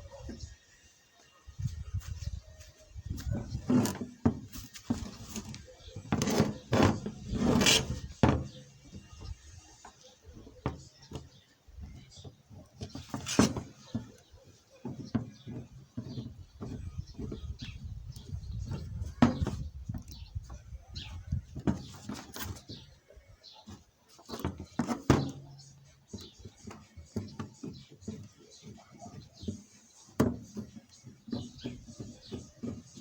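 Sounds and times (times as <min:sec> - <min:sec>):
hard objects knocking and rattling: 0:03.2 - 0:09.6, 0:10.3 - 0:20.6, 0:21.3 - 0:22.9, 0:23.7 - 0:33.0.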